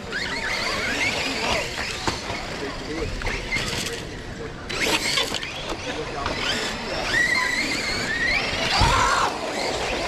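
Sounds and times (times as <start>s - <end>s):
rc car electric motors whining: 0.0s - 10.0s.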